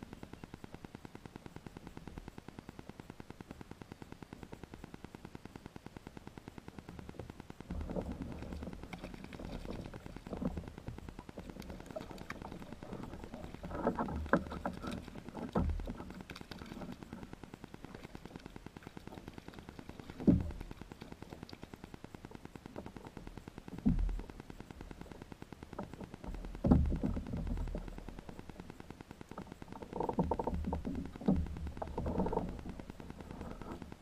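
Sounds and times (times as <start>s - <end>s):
pulsing buzz of microphone interference: 0.0s - 34.0s.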